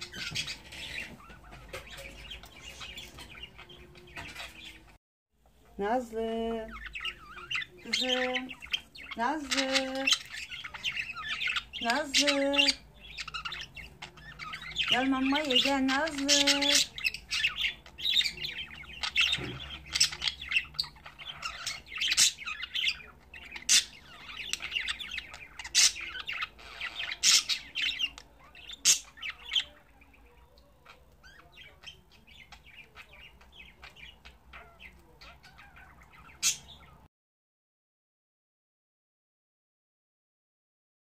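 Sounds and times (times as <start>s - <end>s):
budgerigars chirping and squawking: 0.0s - 5.0s, 5.6s - 37.1s.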